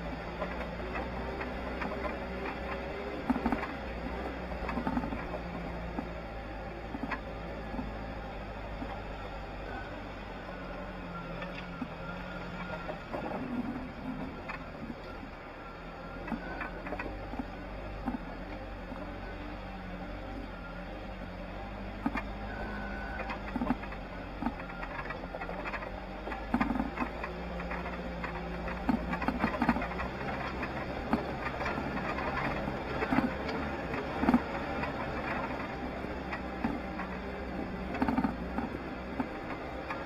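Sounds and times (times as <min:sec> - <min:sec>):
vehicle engine hum: 0:00.0 - 0:40.0.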